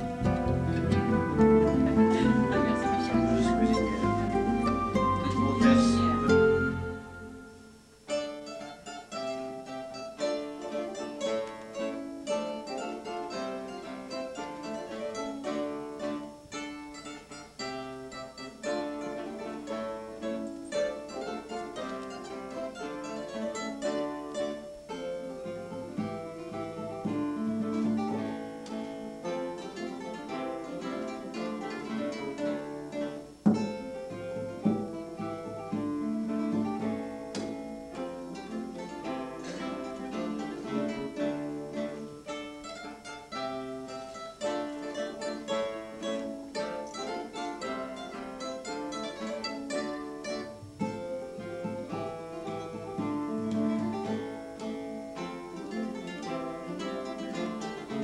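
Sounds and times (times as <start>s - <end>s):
acoustic guitars plucking: 0.0s - 58.0s.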